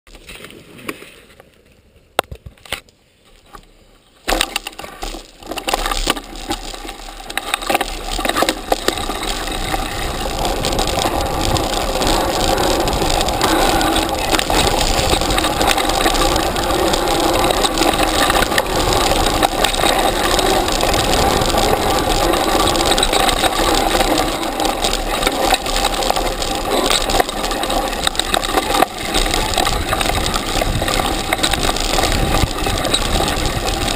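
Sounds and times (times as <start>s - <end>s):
bike clicks: 0.1s - 33.9s
bike rattling over bumps: 4.2s - 33.9s.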